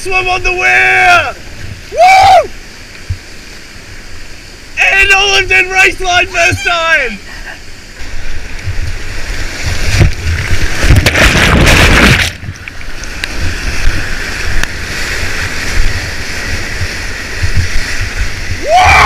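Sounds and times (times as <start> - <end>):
whitewater rushing around kayak: 0.0 - 19.0.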